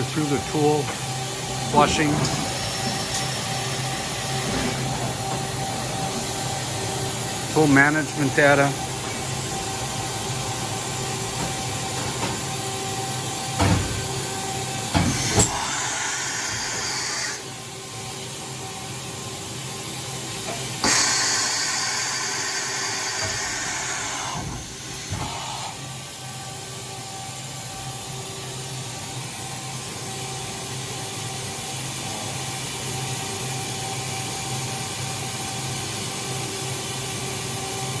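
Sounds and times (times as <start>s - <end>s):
machining center humming: 0.0s - 36.1s.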